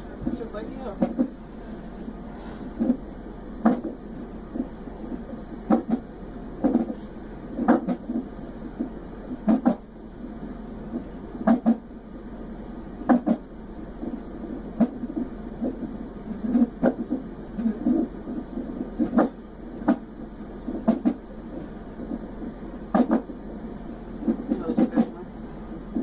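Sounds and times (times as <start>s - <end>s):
fetal heartbeat on doppler monitor: 0.0s - 26.0s.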